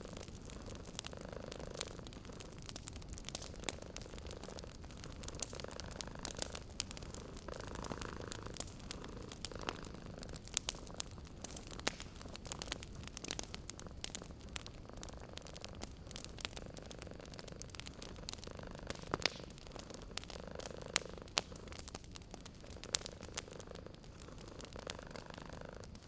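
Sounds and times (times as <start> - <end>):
cat purring: 0.0 - 26.0
wood fire crackling: 0.0 - 26.0.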